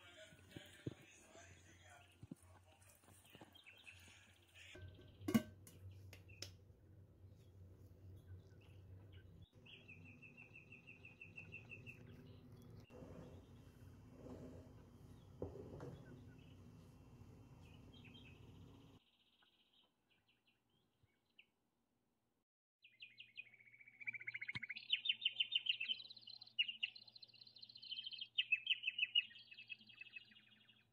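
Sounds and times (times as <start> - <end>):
birds chirping and trilling: 0.8 - 6.4, 8.1 - 16.8, 17.6 - 21.5, 22.8 - 30.9.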